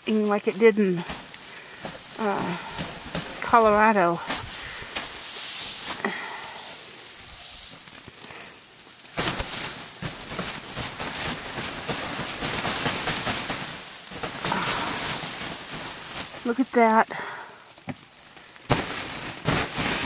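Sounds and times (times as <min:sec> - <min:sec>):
wet snow falling: 0:00.0 - 0:20.0.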